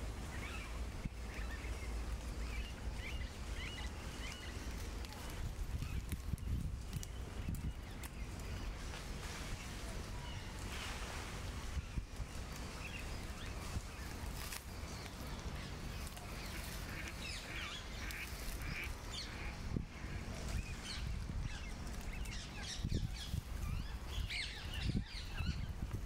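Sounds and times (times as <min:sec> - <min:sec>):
birds calling: 0:00.0 - 0:26.0
low outdoor rumble: 0:00.0 - 0:26.0.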